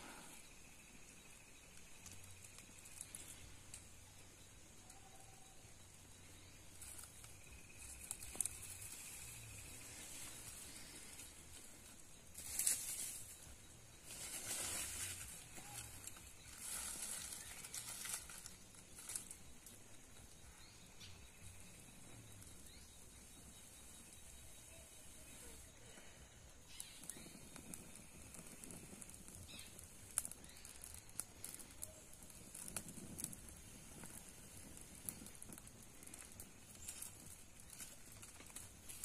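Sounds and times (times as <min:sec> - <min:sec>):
faint steady hiss: 0:00.0 - 0:39.0
straw and twigs rustling: 0:00.8 - 0:04.2, 0:05.8 - 0:24.2, 0:25.0 - 0:39.0.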